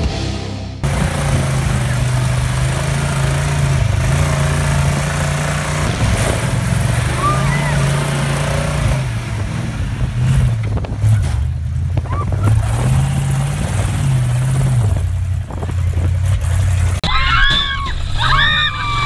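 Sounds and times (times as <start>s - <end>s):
sand buggy engine revving: 0.8s - 19.0s.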